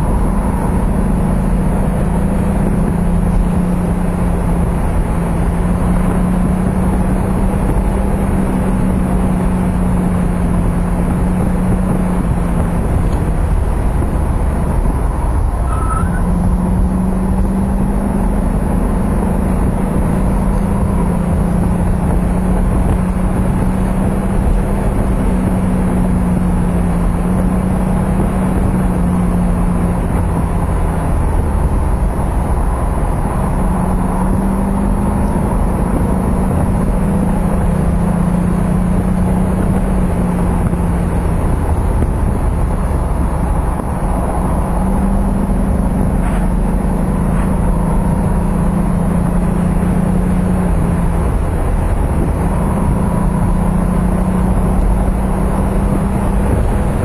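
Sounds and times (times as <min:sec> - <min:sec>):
car engine cruising: 0:00.0 - 0:57.0
road and wind noise: 0:00.0 - 0:57.0.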